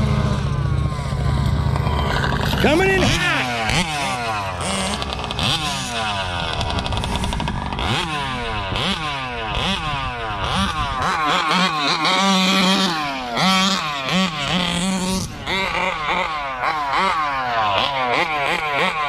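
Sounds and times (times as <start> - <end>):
rc truck engines revving: 0.0 - 19.0
steady engine note: 0.0 - 19.0.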